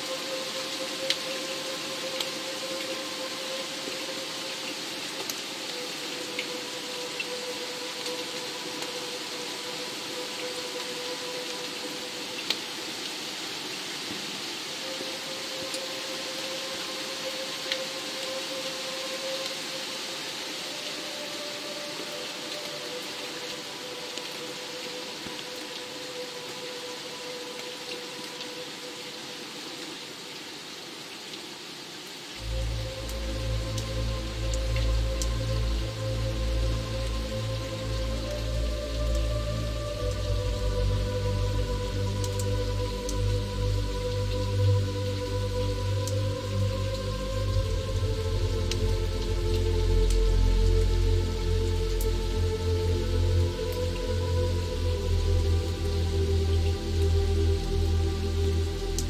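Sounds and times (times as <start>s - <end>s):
rain hiss: 0.0s - 59.0s.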